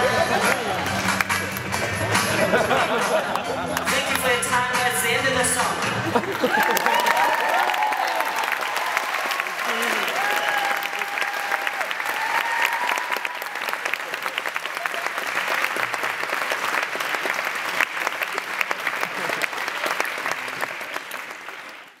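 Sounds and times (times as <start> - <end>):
audience applauding: 0.0 - 4.4, 6.0 - 22.0.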